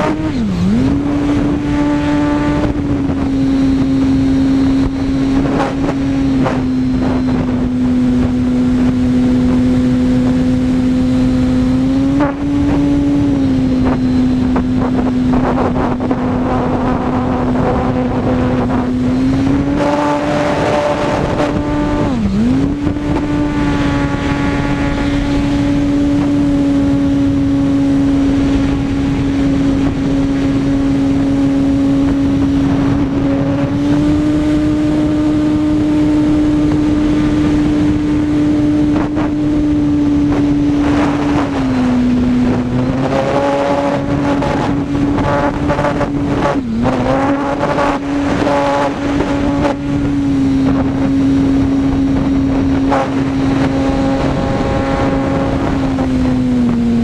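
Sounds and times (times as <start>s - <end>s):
electric motor and propeller whine: 0.0s - 57.0s
wind rush: 0.0s - 57.0s.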